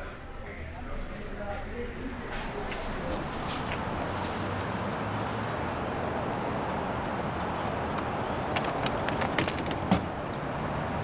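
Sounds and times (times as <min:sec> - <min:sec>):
traffic on wet pavement: 0:02.2 - 0:11.0.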